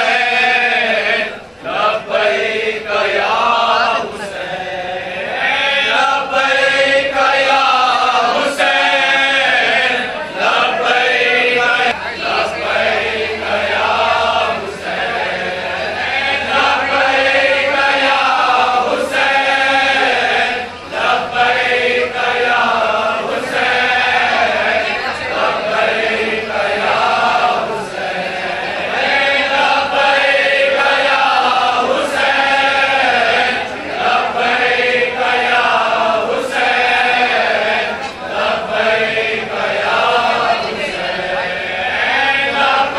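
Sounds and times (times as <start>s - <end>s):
men chanting a lament in unison: 0.0s - 42.9s.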